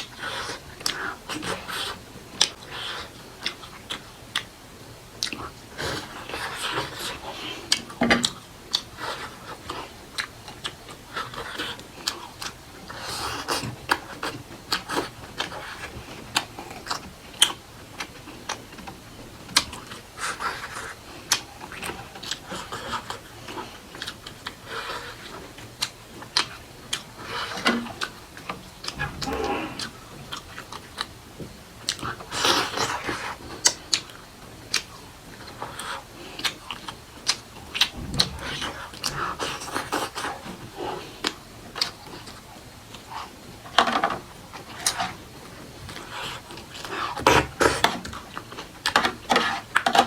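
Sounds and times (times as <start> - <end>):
person chewing food: 5.2 - 49.8.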